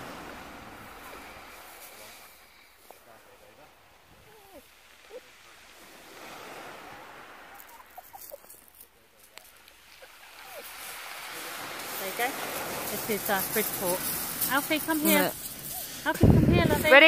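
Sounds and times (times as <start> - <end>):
small waves washing onto shingle: 0.0 - 17.0.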